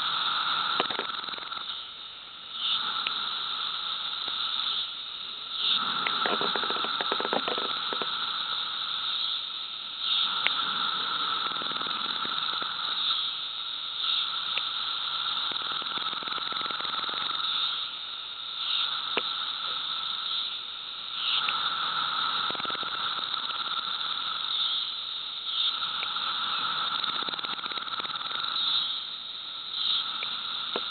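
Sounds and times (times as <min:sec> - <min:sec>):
cicadas buzzing chorus: 0:00.0 - 0:30.9.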